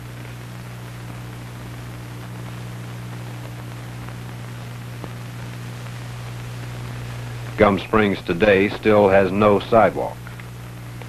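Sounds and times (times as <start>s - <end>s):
film soundtrack hiss: 0.0s - 11.0s
low mains hum: 0.0s - 11.0s.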